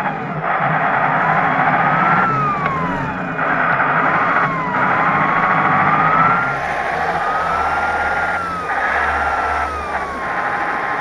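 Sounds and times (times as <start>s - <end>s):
simulated diesel engine from speaker: 0.0s - 11.0s
whining cooling fan howl: 0.0s - 11.0s.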